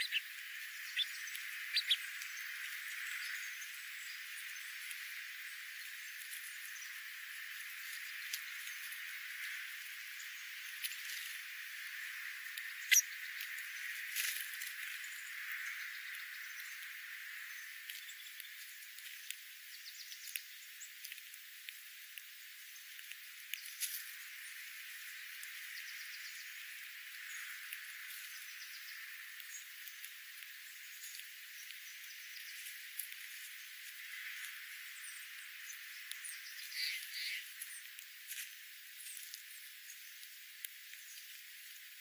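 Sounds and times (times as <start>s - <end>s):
small birds chirping: 0.0s - 42.0s
steady high hiss: 0.0s - 42.0s.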